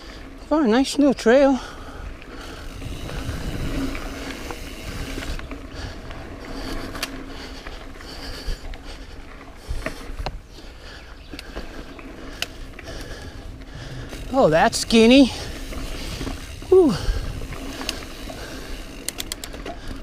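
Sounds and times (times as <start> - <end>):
bike rattling: 0.0 - 20.0
bike tyres rolling on dirt: 0.0 - 20.0.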